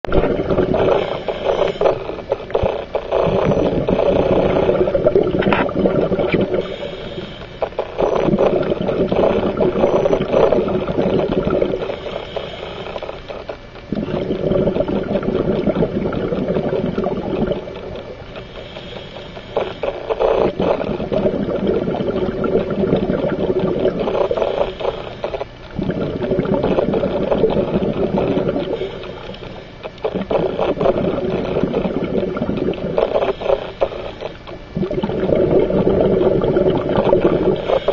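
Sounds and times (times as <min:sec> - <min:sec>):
scuba regulator bubbling breaths: 0:00.1 - 0:37.9.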